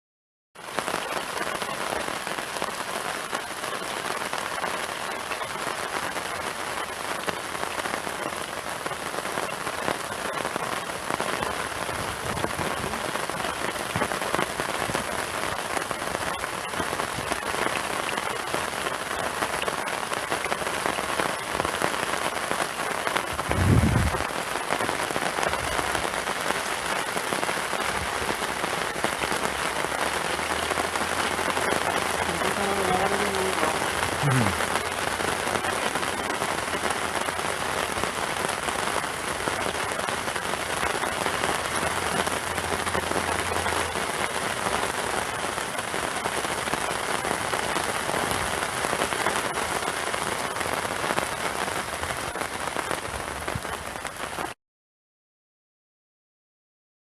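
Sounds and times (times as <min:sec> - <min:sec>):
heavy rain on a tarp: 0:00.6 - 0:54.6.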